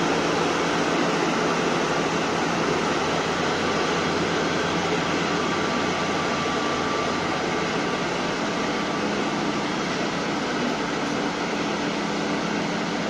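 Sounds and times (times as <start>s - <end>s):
heavy diesel machinery drone: 0.0s - 13.0s.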